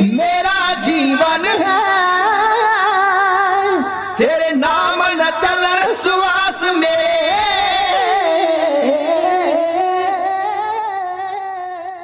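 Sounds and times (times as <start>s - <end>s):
devotional song melody: 0.0s - 12.0s.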